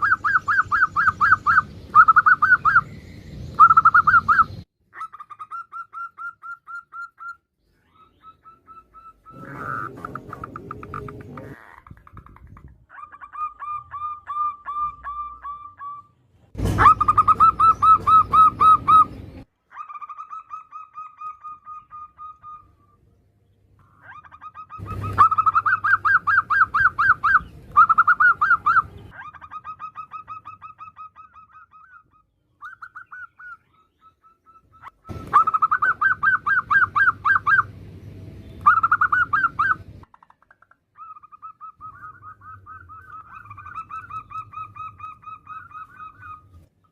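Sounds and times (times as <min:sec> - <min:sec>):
doves giving chattering calls: 0:00.0 - 0:16.1, 0:16.7 - 0:23.0, 0:23.8 - 0:46.9.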